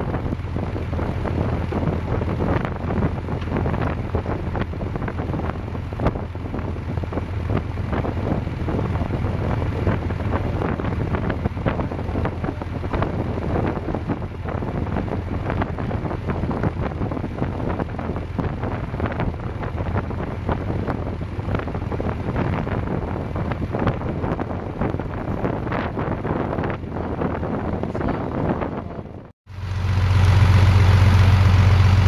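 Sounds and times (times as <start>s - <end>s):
wind buffeting microphone: 0.0s - 29.3s
boat engine droning: 0.0s - 32.0s.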